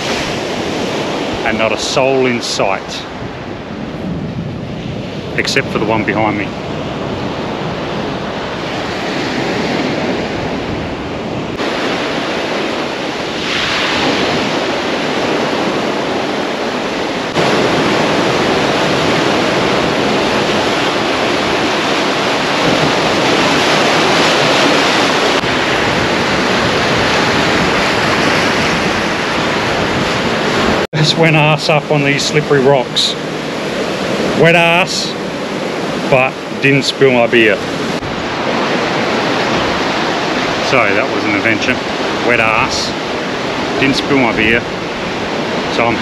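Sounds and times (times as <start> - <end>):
surf washing over rocks: 0.0 - 46.0
wind buffeting microphone: 0.0 - 46.0.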